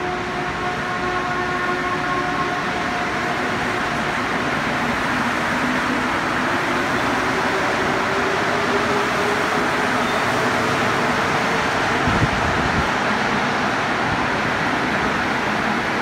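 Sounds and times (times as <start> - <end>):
train tyres rushing: 0.0 - 16.0.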